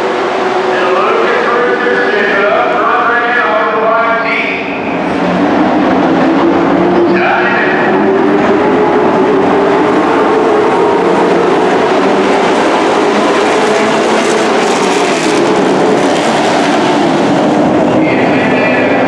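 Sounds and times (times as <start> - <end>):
race truck engines: 0.0 - 19.0.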